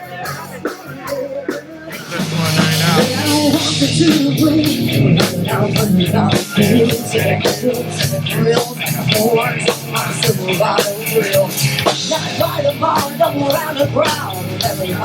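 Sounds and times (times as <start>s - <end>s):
electric guitar: 0.0s - 15.0s
live rock band: 0.0s - 15.0s
steady drum beat: 0.0s - 15.0s.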